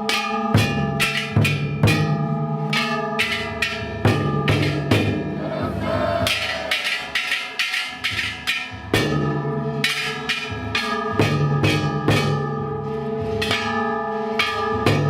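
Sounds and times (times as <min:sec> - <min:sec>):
gongs ringing: 0:00.0 - 0:15.0
taiko drum strokes: 0:00.0 - 0:15.0.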